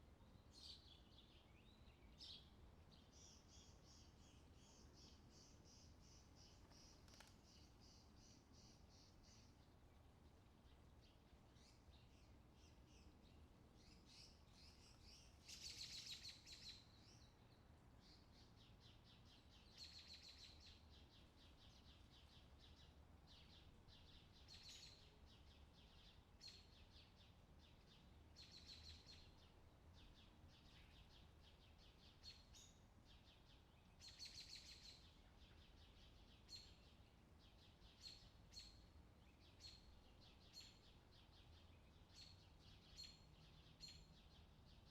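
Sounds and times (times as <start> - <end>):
small birds chirping: 0.2 - 44.9.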